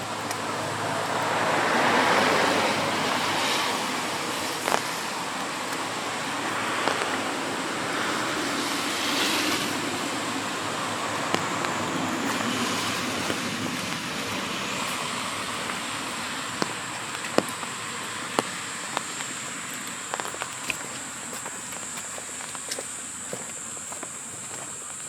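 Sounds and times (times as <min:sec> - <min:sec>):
car passing on wet road: 0:00.0 - 0:25.0
rain on a street: 0:00.0 - 0:25.0
thin high steady whine: 0:00.0 - 0:25.0.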